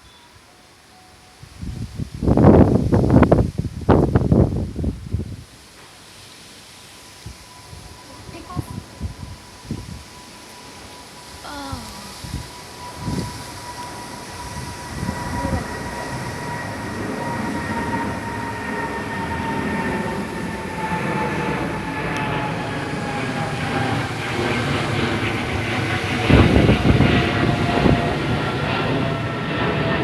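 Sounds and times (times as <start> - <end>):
wind buffeting microphone: 1.4 - 5.5, 7.2 - 10.2, 11.3 - 30.0
jet airplane taking off: 1.5 - 5.4, 6.1 - 30.0.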